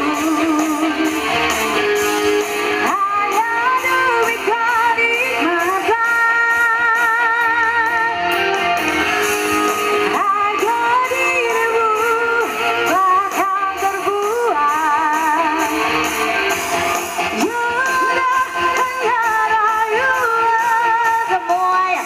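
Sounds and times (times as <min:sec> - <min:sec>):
live band music: 0:00.0 - 0:22.0.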